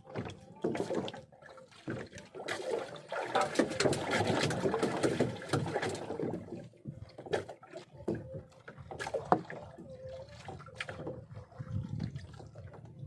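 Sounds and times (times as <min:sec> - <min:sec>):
knocks and clicks on a boat: 0:00.0 - 0:13.0
water splashing and sloshing: 0:00.0 - 0:13.0.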